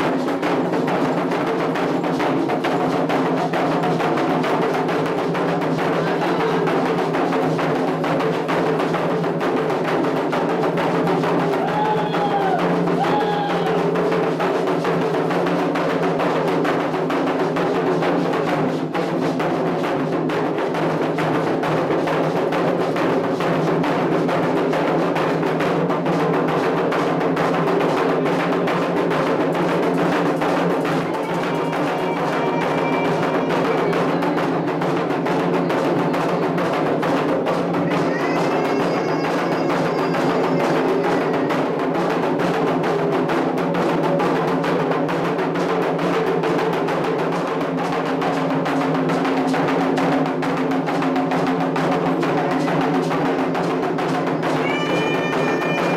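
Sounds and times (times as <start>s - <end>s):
hand drums drumming: 0.0s - 55.9s.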